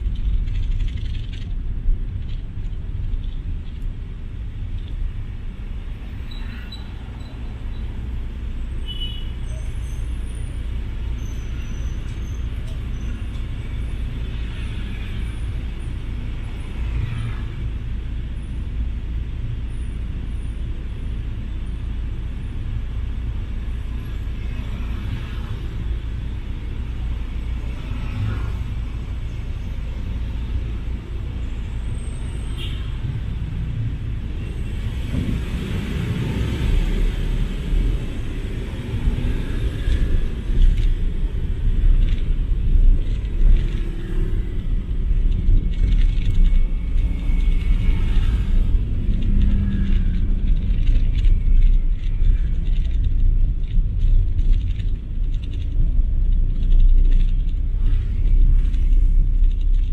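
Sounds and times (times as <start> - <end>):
low engine rumble: 9.4 - 59.9.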